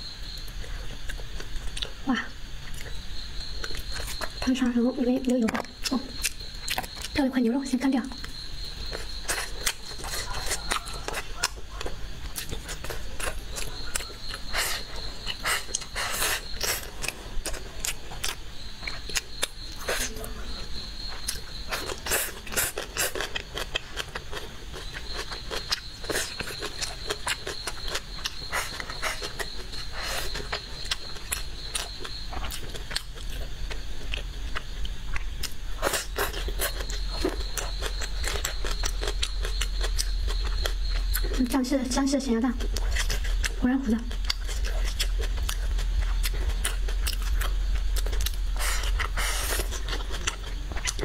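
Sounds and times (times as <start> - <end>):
chewing and lip-smacking: 0.3 - 2.0, 2.6 - 4.5, 5.1 - 7.2, 8.1 - 20.1, 20.8 - 41.6, 42.6 - 51.0.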